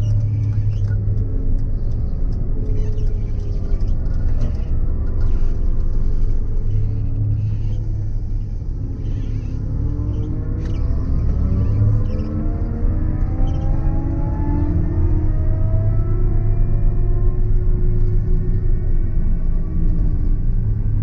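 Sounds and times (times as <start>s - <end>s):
diesel engine drone from cab: 0.0s - 21.0s.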